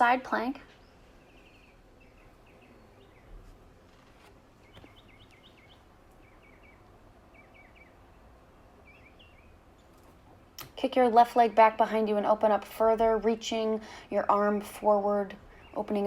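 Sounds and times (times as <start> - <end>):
faint birdsong chirping: 0.0 - 16.0.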